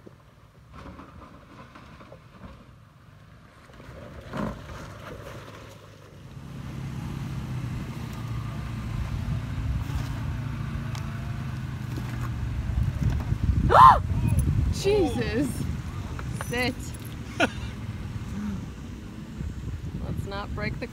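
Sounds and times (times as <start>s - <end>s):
engine running at low revs: 3.2s - 20.9s.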